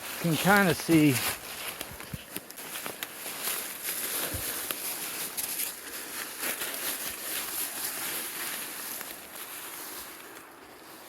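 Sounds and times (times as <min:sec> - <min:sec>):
footsteps on rock and debris: 0:00.0 - 0:10.6
steady outdoor hiss: 0:00.0 - 0:11.0.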